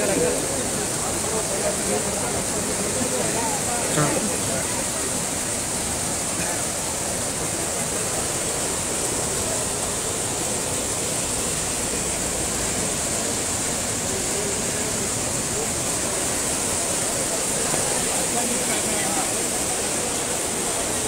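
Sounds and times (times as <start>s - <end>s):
floodwater rushing through channel: 0.0s - 21.0s.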